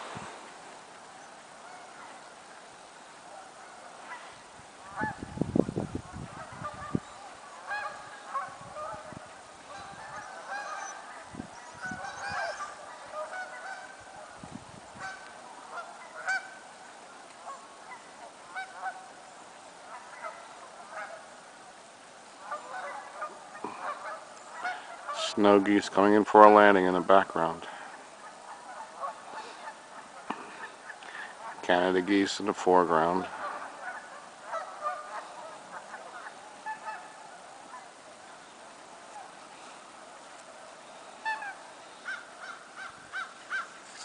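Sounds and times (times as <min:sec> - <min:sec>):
flock of geese honking: 0:00.0 - 0:44.0.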